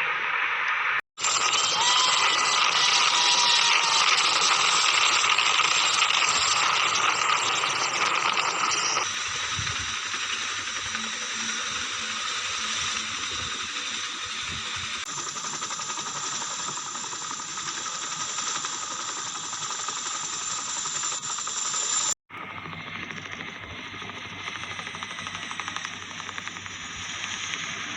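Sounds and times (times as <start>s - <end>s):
helicopter engines and rotors: 1.2s - 27.9s.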